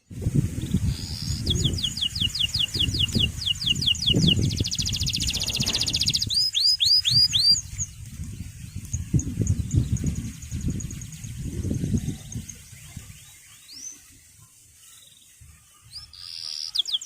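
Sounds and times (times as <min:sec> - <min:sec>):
canary singing: 0:00.6 - 0:14.2, 0:15.1 - 0:17.0.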